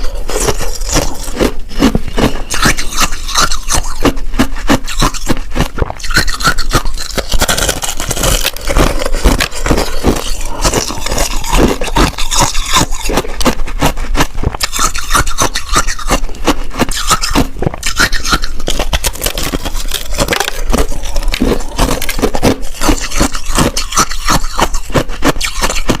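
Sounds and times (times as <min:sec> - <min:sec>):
shaved ice crunching: 0:00.0 - 0:04.1, 0:04.7 - 0:26.0.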